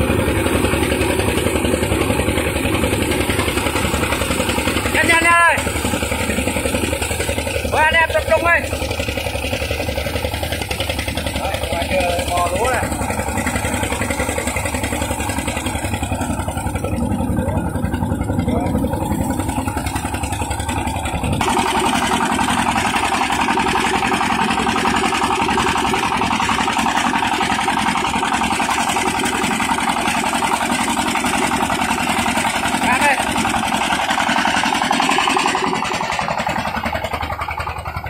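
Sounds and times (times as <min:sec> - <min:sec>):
threshing machine running: 0:00.0 - 0:38.0.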